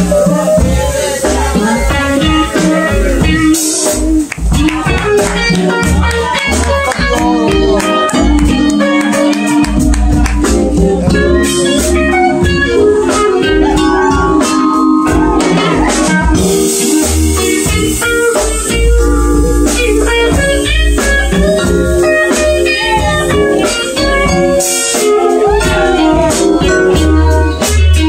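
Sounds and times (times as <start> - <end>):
bass: 0.0 - 28.0
drum kit: 0.0 - 28.0
guitar: 0.0 - 28.0.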